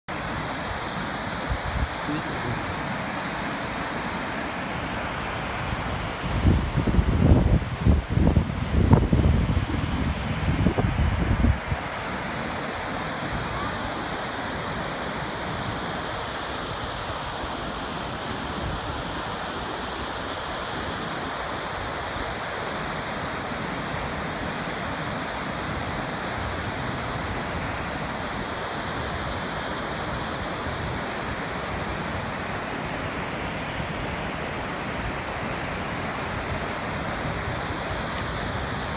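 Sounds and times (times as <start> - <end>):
waterfall rushing: 0.1 - 6.7, 9.7 - 38.9.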